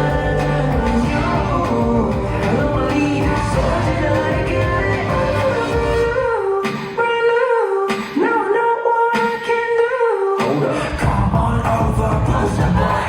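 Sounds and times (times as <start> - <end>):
male vocalist singing: 0.0 - 13.0
pop band playing: 0.0 - 13.0.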